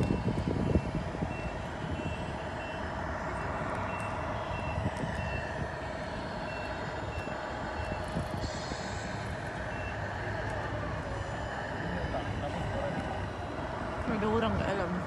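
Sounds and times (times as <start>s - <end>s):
short high reversing beeps: 0.0s - 14.2s
simulated truck engine hum: 0.0s - 15.0s.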